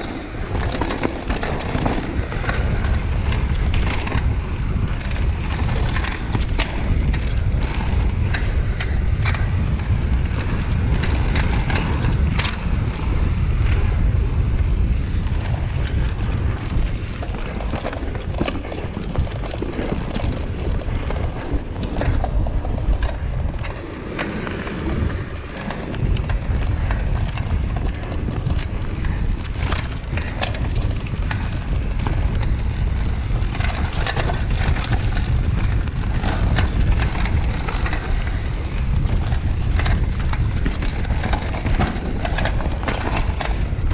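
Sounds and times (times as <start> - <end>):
bike rattling over bumps: 0.0 - 43.9
bike tyre noise on dirt: 0.0 - 43.9
wind buffeting microphone: 0.0 - 43.9.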